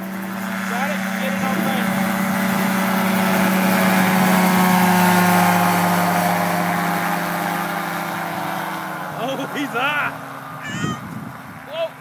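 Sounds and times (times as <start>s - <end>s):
gyrocopter engine and propeller drone: 0.0s - 12.0s.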